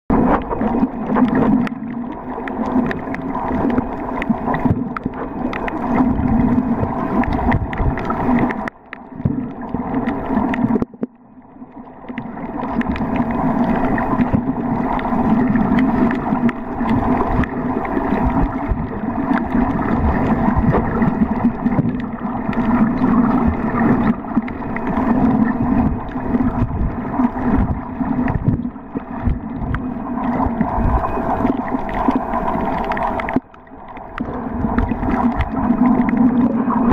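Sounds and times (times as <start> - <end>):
underwater rushing and crackling: 0.0 - 36.9.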